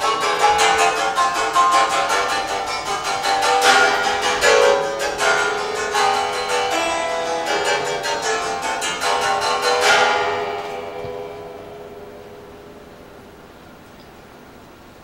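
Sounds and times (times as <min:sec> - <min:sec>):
zither strings struck rapidly: 0:00.0 - 0:13.5.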